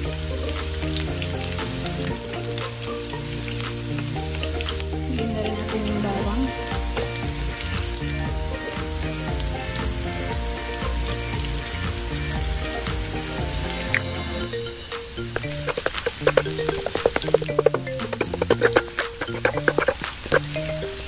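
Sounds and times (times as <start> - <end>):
onion sizzling in frying pan: 0.0 - 21.0.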